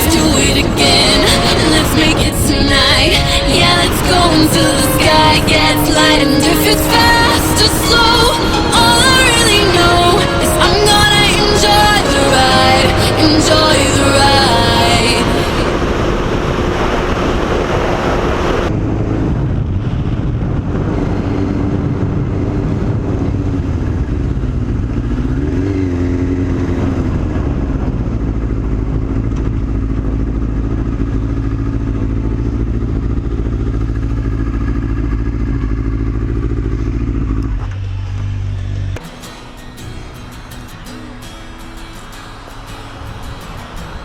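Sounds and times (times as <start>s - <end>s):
motorcycle engine running: 0.0s - 41.6s.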